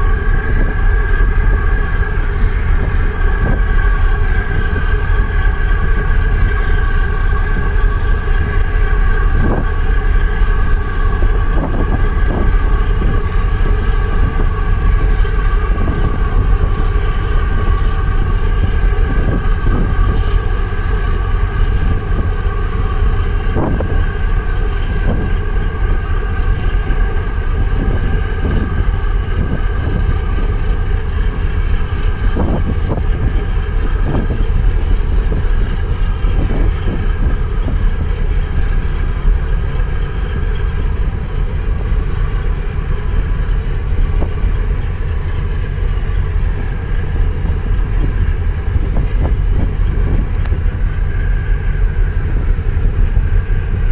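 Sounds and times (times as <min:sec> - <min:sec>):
boat engine drone: 0:00.0 - 0:53.9
steady whine: 0:00.0 - 0:53.9
wind buffeting microphone: 0:00.0 - 0:53.9.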